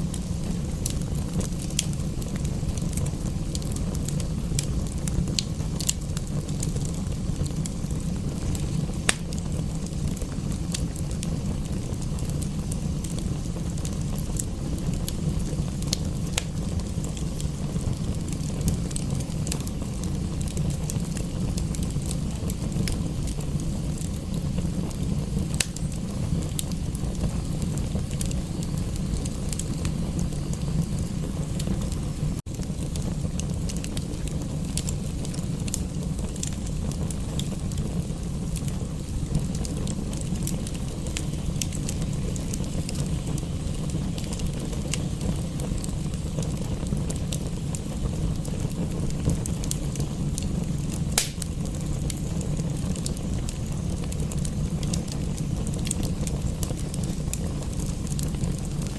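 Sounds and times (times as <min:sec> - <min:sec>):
fireplace crackling and popping: 0:00.0 - 0:58.9
rain hiss: 0:00.0 - 0:58.9.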